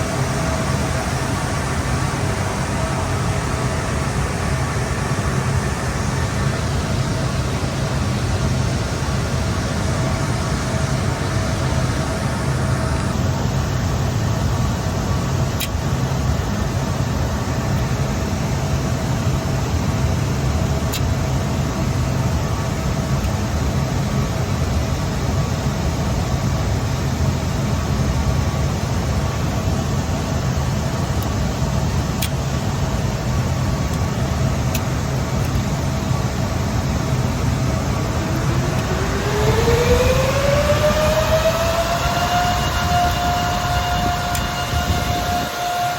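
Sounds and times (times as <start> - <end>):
cooling fans whirring: 0.0 - 45.9.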